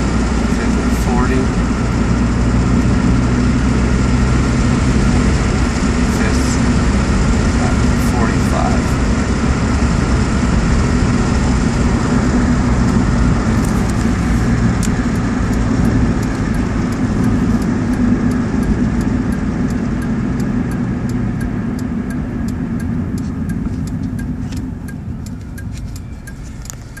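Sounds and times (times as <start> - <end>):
car engine slowing to idle: 0.0 - 27.0
road noise inside car: 0.0 - 27.0
turn-signal relay ticking: 0.0 - 27.0.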